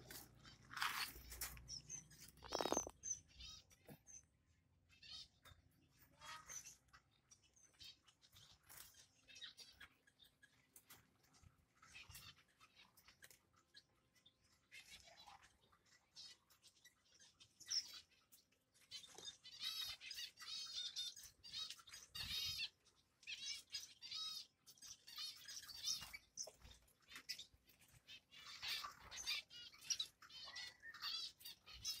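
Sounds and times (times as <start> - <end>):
young finches chirping: 0.0 - 32.0.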